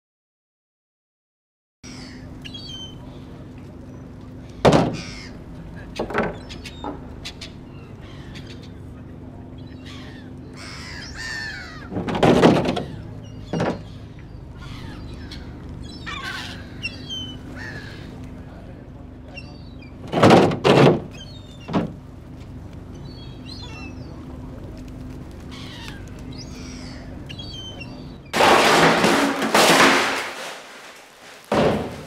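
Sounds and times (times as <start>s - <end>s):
gulls calling: 1.8s - 32.0s
steady low hum: 1.9s - 32.0s.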